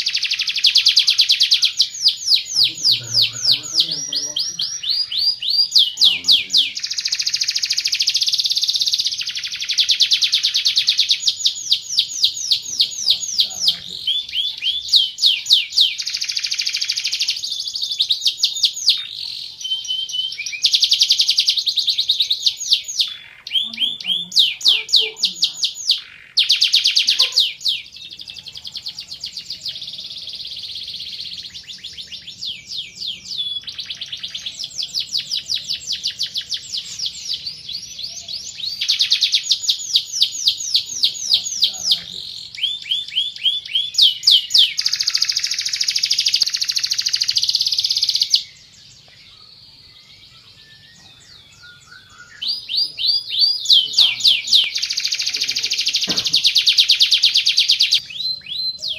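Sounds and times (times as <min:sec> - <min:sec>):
canary singing rapid trills: 0:00.0 - 0:58.9.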